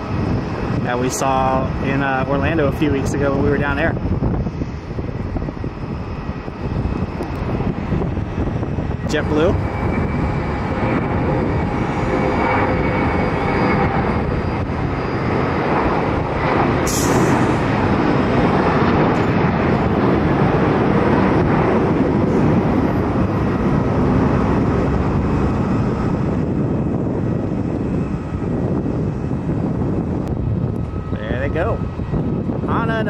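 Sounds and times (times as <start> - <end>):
jet engines at high power: 0.0 - 33.0.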